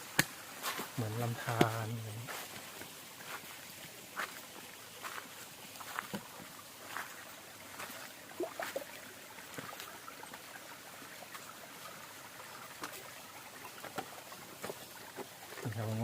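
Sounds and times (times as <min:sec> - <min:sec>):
small waterfall running over rock: 0:00.0 - 0:16.0.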